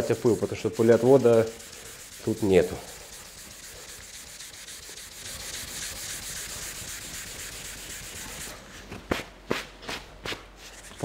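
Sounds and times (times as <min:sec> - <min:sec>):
hand sanding hiss: 0:00.0 - 0:08.9.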